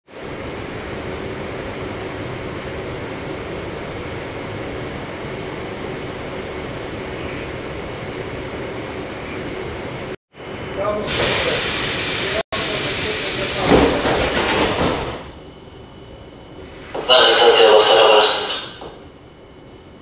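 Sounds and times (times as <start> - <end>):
metro train hum and rushing: 0.1 - 20.0.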